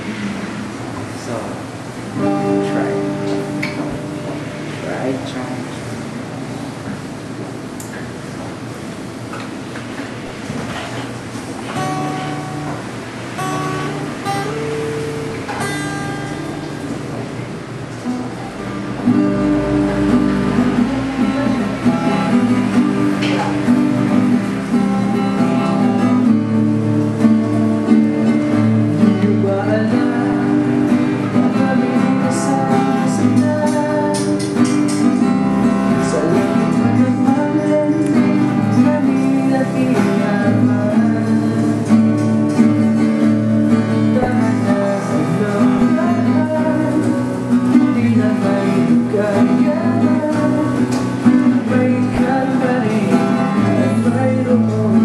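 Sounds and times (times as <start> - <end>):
acoustic guitar strummed and picked: 0.0 - 55.0.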